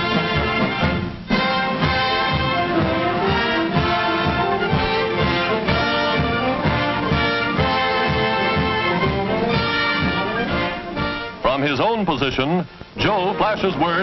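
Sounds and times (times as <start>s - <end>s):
orchestral music led by brass: 0.0s - 14.0s.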